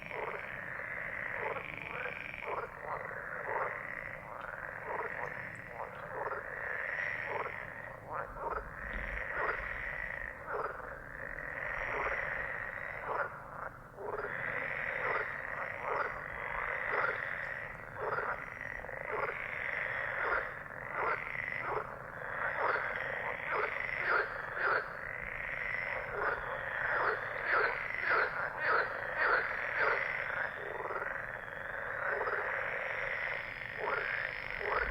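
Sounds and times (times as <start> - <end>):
frogs croaking: 0.0 - 34.9.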